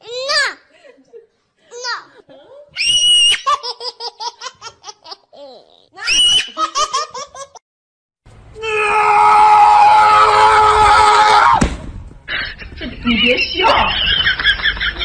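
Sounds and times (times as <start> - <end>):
background noise: 0.0 - 7.6, 8.3 - 15.0.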